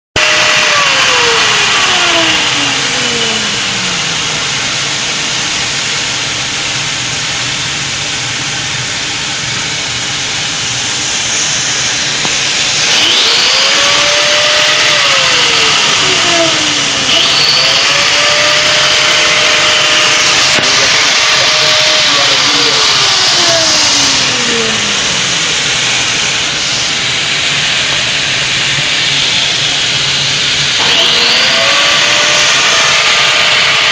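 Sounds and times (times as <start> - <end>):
steady loud roar: 0.2 - 6.6, 10.2 - 33.9
angle grinder spinning: 0.2 - 6.9, 9.4 - 33.9.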